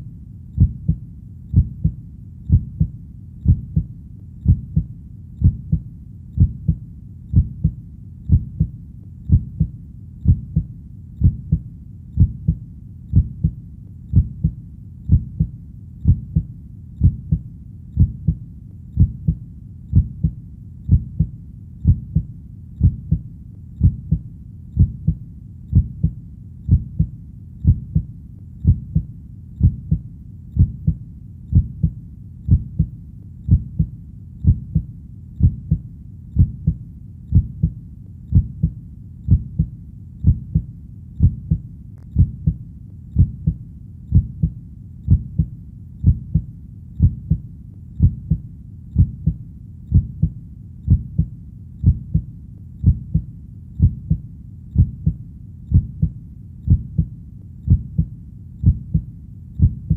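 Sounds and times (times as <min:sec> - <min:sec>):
faint low hum: 0:00.0 - 0:59.9
heartbeat thumping: 0:00.6 - 0:11.6, 0:12.2 - 0:59.9.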